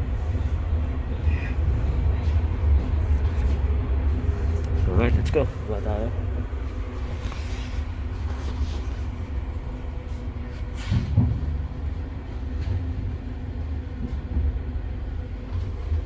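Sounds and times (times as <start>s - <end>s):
faint hum: 0.0s - 16.0s
train running rumble: 0.0s - 16.0s.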